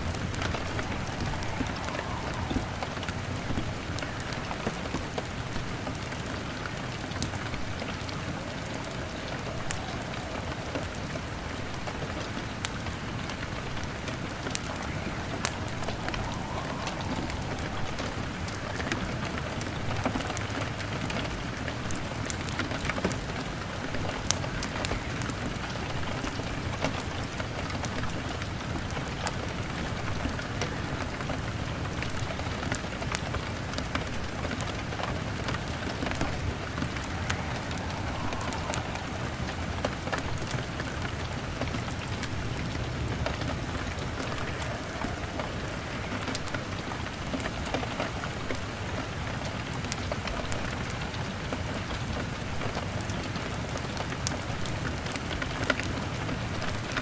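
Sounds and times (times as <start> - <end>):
wood fire crackling and popping: 0.0 - 30.8, 32.0 - 49.2
rain pattering on window: 0.0 - 57.0.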